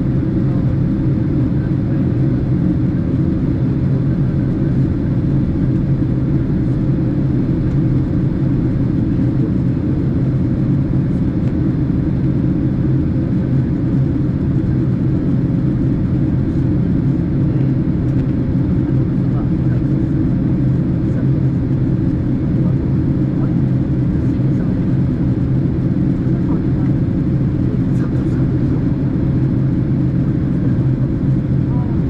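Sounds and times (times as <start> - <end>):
airliner cabin rumble: 0.0 - 32.0.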